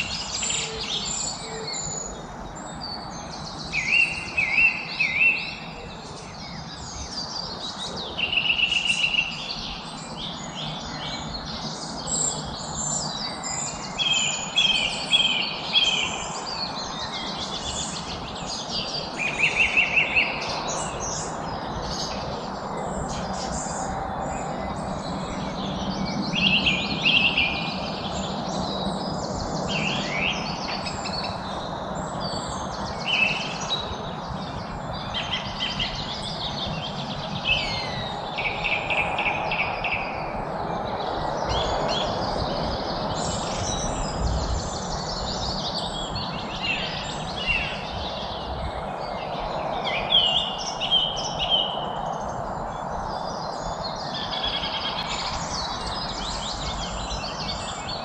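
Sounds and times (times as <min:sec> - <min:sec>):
birds chirping and singing: 0:00.0 - 0:58.0.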